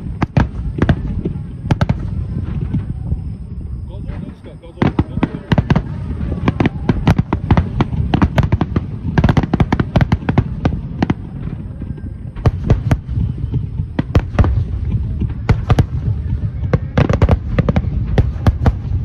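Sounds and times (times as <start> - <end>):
fireworks bangs: 0.0 - 19.0
low rumble: 0.0 - 19.0.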